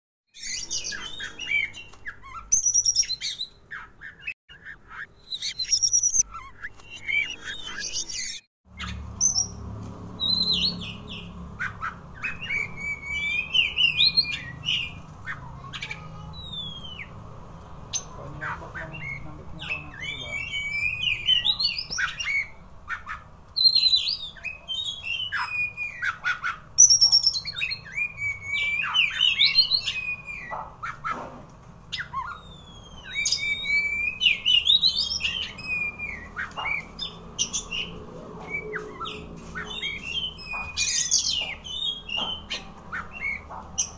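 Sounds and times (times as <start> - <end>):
bird singing whistles and chirps: 0.3 - 9.6, 10.2 - 15.0, 15.7 - 17.1, 18.8 - 31.1, 31.9 - 43.9.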